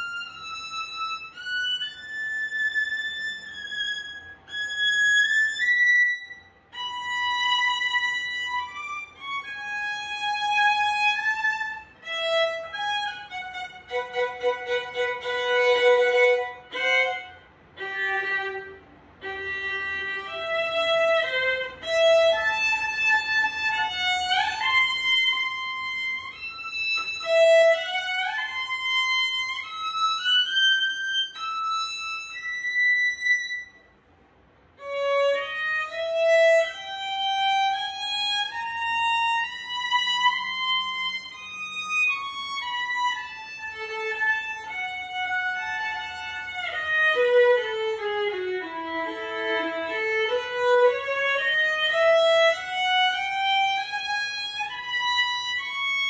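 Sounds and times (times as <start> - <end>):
solo violin bowed: 0.0 - 34.0, 34.8 - 56.0.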